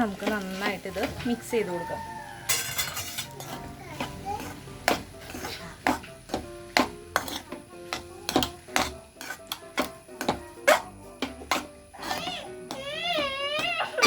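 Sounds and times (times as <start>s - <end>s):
background music: 0.0s - 14.0s
spoon scraping a pan: 0.0s - 14.0s.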